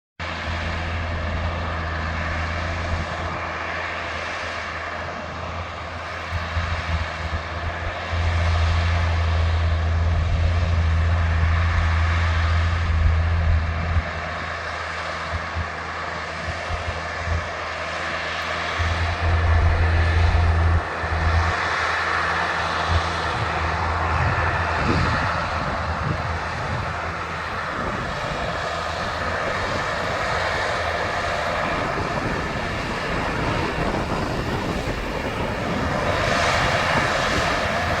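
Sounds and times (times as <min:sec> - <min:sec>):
tractor diesel engines running: 0:00.2 - 0:38.0.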